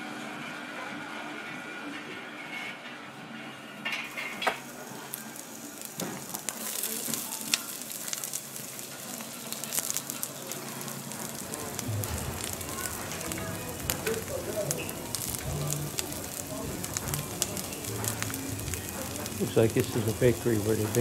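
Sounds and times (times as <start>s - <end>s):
fire crackling and hissing: 4.1s - 21.0s.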